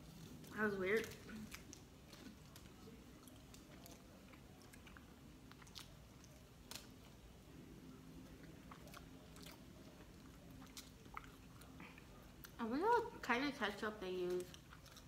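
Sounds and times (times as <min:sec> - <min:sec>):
chewing on burger: 0:00.0 - 0:12.6, 0:14.1 - 0:15.0.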